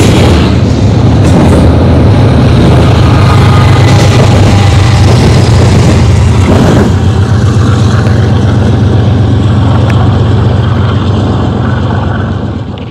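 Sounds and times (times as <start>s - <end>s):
diesel locomotive engine drone: 0.0s - 12.9s
wheels rumbling on rail: 0.0s - 12.9s.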